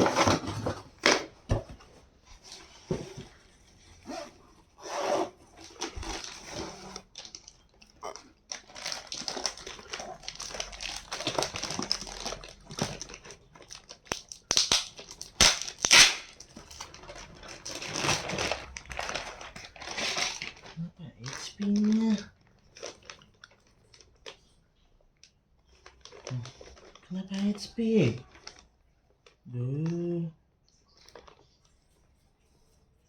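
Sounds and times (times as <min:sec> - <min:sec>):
packaging crinkling and rustling: 0:00.0 - 0:29.4.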